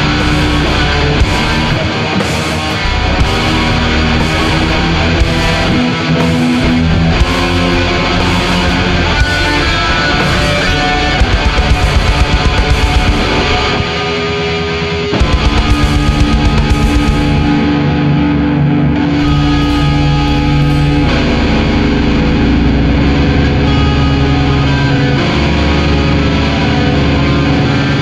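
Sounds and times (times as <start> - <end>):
distorted metal guitars: 0.0 - 28.0.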